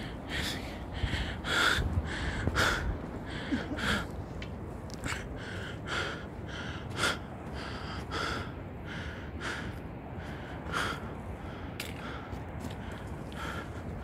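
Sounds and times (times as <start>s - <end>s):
person breathing heavily: 0.0s - 14.0s.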